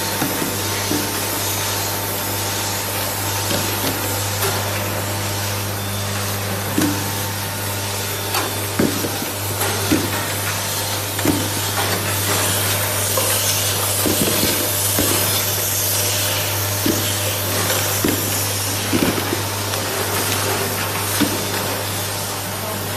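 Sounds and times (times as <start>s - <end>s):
machine hum and hiss: 0.0s - 22.9s.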